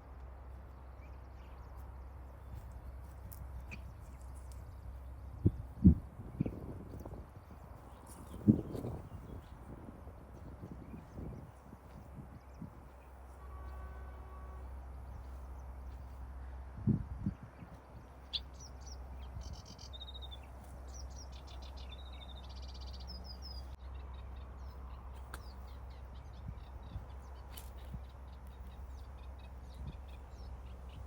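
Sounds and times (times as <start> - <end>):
distant road traffic: 0.0 - 31.0
small birds chirping: 0.0 - 31.0.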